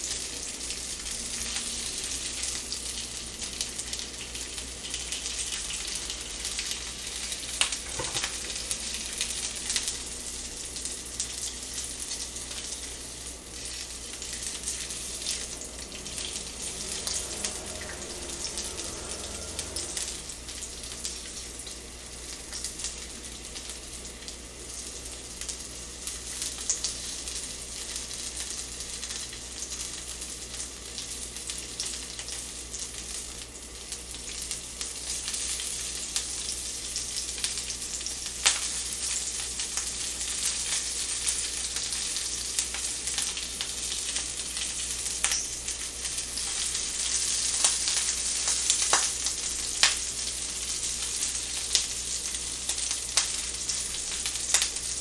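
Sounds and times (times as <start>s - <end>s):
sausages sizzling in a frying pan: 0.0s - 55.0s.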